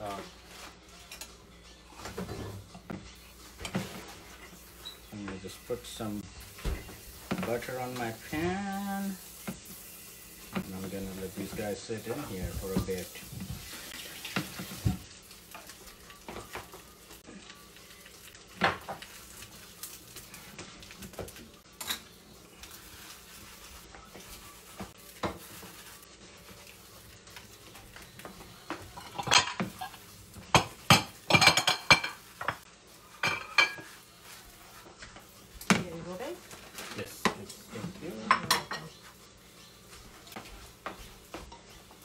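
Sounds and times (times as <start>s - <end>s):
butter sizzling: 2.9s - 42.0s.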